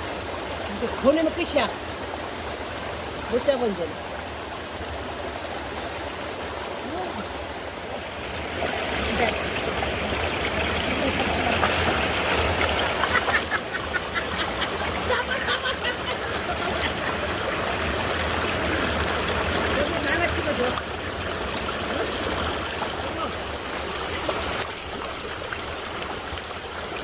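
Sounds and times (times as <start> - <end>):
creek water running over rocks: 0.0 - 27.0
small water splashes: 0.0 - 27.0.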